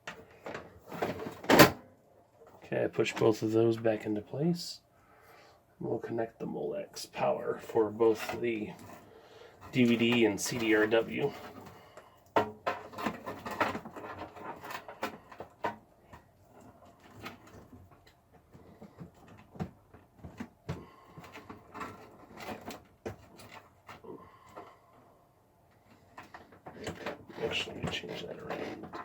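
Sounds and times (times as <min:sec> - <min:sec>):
hands working cables and connectors: 0:00.0 - 0:04.3, 0:07.2 - 0:29.0.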